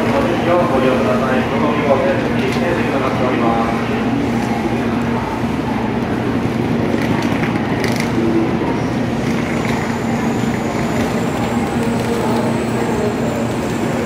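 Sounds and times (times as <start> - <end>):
stationary train humming: 0.0 - 14.0.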